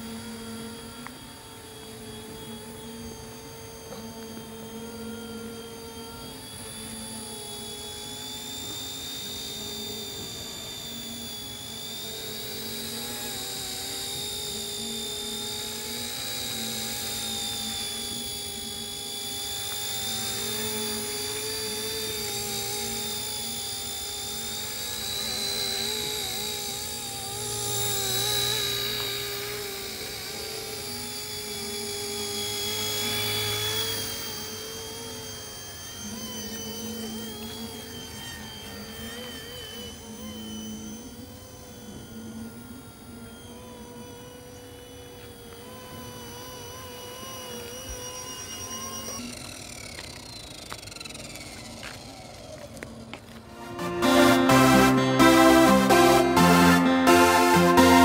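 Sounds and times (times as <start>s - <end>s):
remote-control helicopter motor whine: 0.0s - 58.0s.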